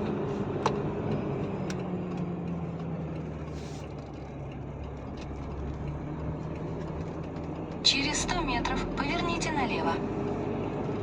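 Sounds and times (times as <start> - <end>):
road and cab noise: 0.0 - 11.0
truck engine humming: 0.0 - 11.0.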